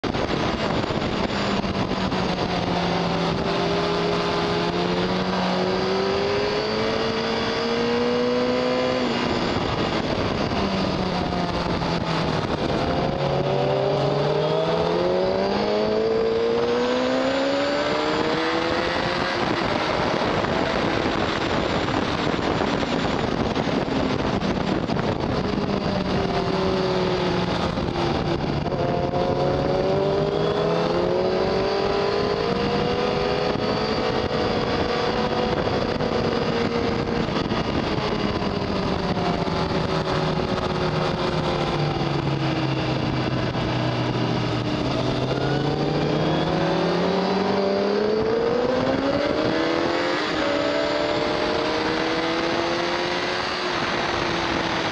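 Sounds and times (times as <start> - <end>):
heavy wind rush: 0.0 - 54.9
motorcycle engine accelerating: 0.0 - 54.9.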